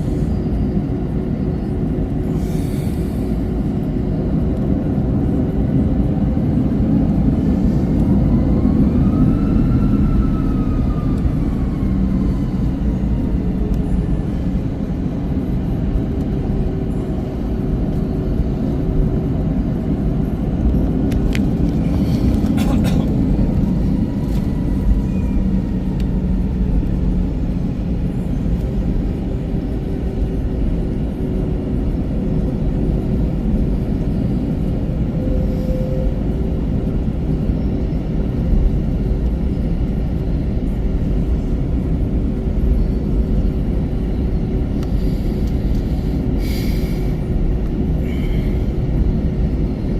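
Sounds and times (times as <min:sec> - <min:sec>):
airplane cabin rumble: 0:00.0 - 0:49.9.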